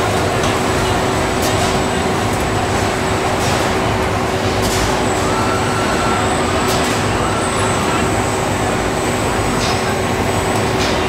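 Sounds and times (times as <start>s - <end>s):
machinery drone and hum: 0.0s - 11.0s.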